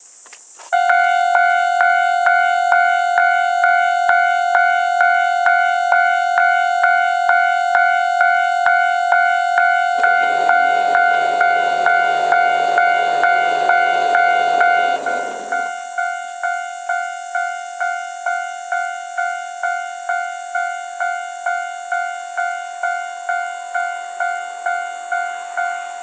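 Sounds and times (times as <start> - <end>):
level-crossing alarm bell: 0.8 - 26.0
low rumble of train: 0.8 - 26.0.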